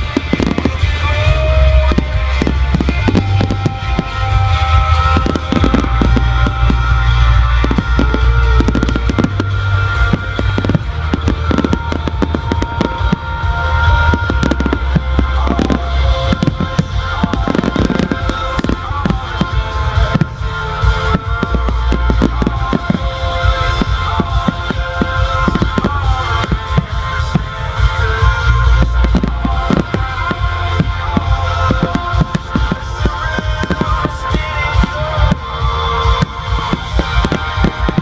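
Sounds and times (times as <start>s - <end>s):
fireworks bursting and crackling: 0.0s - 38.0s
music with heavy pulsing bass: 0.0s - 38.0s.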